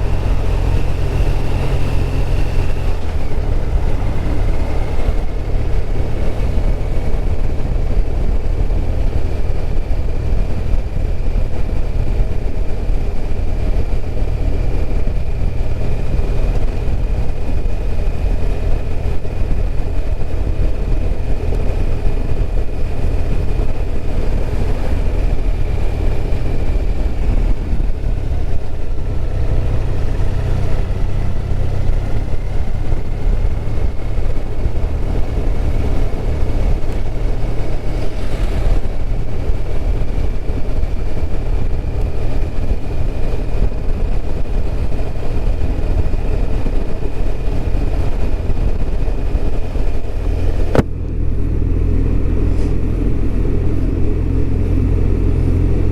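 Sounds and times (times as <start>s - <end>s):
motorcycle engine cruising: 0.0s - 55.9s
wind and road noise: 0.0s - 55.9s.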